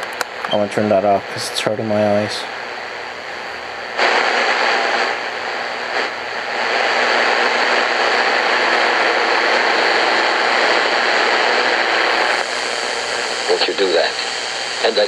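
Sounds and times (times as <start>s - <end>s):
shortwave radio static hiss: 0.0s - 15.0s.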